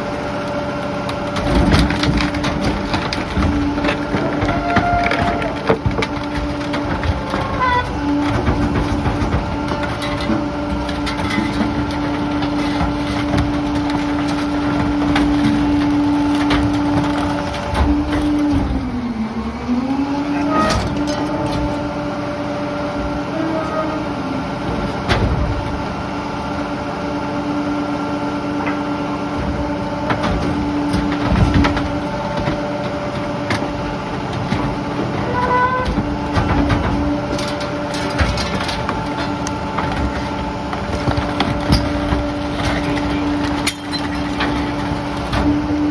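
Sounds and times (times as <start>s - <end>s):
garbage truck engine running: 0.0s - 45.9s
debris knocking and clunking: 1.1s - 19.3s, 20.4s - 23.8s, 24.5s - 26.6s, 28.6s - 45.9s.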